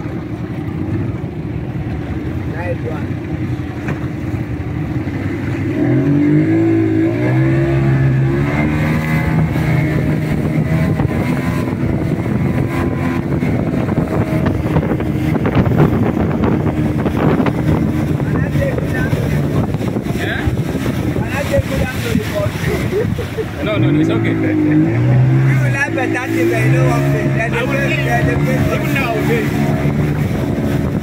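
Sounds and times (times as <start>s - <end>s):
motorboat engine drone: 0.0s - 31.0s
water rushing: 0.0s - 31.0s
wind: 0.0s - 31.0s.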